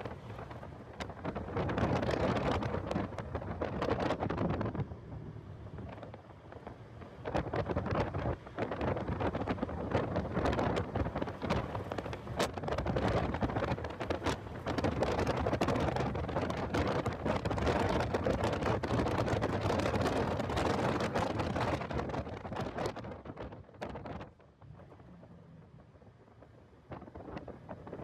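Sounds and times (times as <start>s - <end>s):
car and road noise: 0.0s - 28.0s
wind buffeting microphone: 0.0s - 28.0s.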